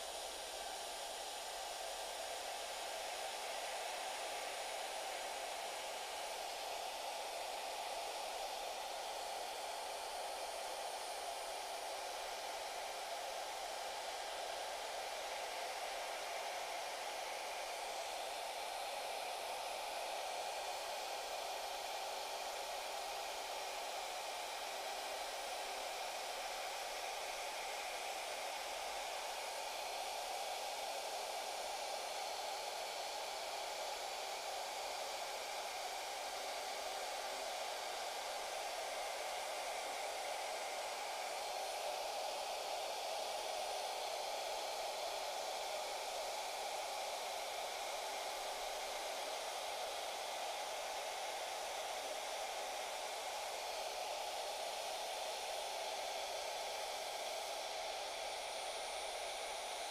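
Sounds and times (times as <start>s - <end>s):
handheld router with dust extraction: 0.0s - 59.9s.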